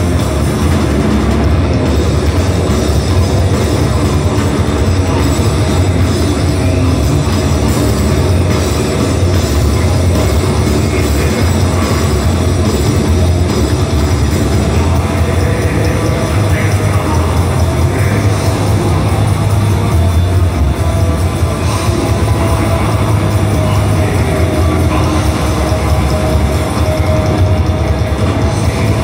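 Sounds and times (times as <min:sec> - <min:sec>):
metal band playing live: 0:00.0 - 0:29.0.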